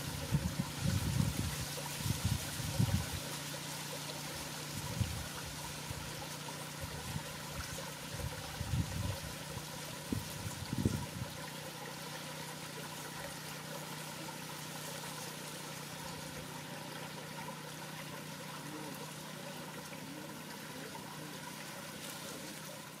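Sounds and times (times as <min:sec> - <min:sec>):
constant low hum: 0:00.0 - 0:23.0
trickling water: 0:00.0 - 0:23.0.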